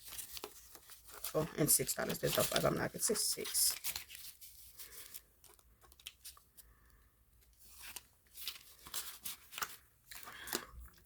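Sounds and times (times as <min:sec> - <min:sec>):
banknotes rustling and snapping: 0:00.0 - 0:11.0.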